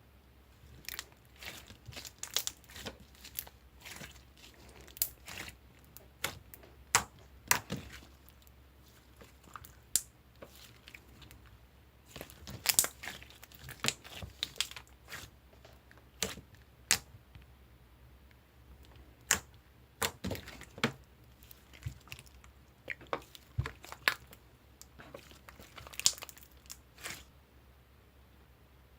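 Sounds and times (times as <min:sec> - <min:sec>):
slime squished by hand: 0:00.6 - 0:11.5, 0:12.1 - 0:15.4, 0:16.1 - 0:17.1, 0:19.2 - 0:27.3.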